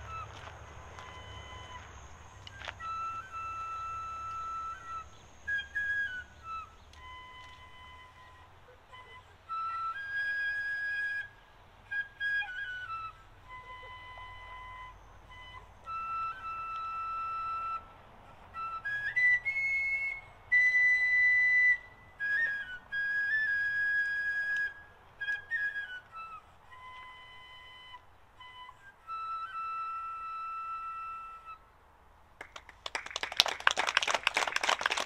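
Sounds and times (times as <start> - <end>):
high-pitched solo wind instrument: 0.0 - 17.9, 18.5 - 31.6.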